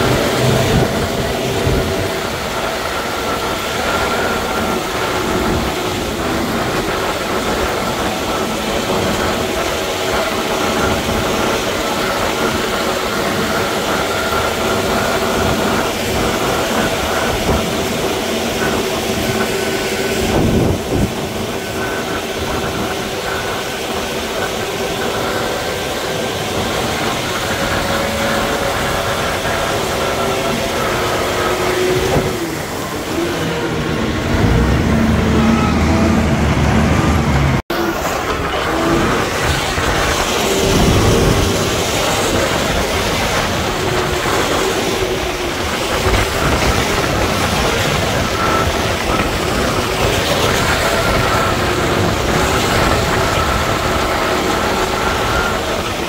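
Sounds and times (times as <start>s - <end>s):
heavy diesel machines running: 0.0s - 56.0s
louder deeper engine: 0.0s - 56.0s.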